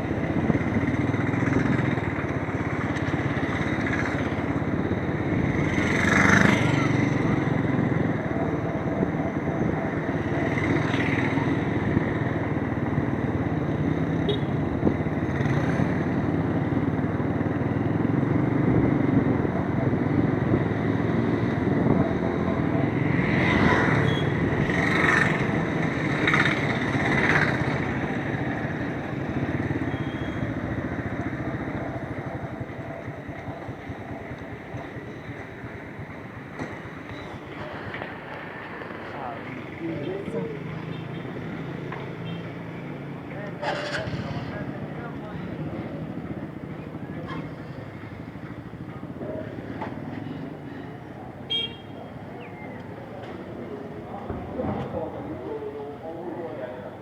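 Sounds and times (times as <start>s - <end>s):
motorcycle running: 0.0s - 57.0s.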